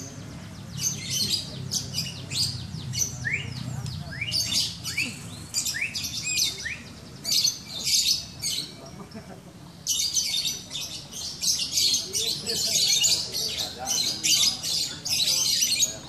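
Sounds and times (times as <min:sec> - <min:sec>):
lovebirds chirping trills: 0:00.0 - 0:16.0.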